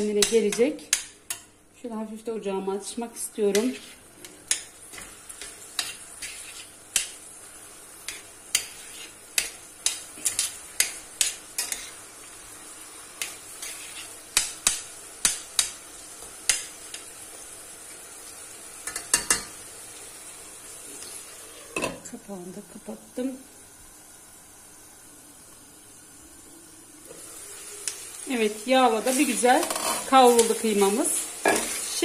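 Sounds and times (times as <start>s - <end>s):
mince sizzling in oil: 0.0s - 32.0s.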